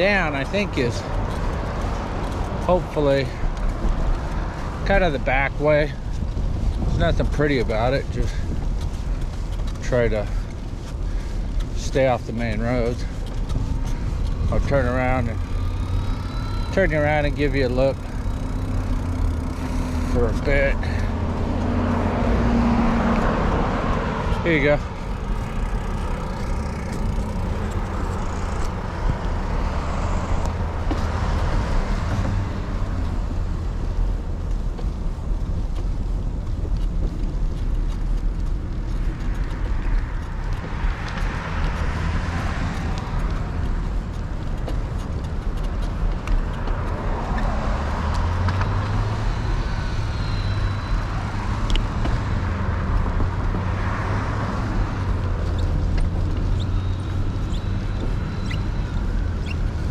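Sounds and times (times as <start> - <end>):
cars passing by: 0.0 - 59.9.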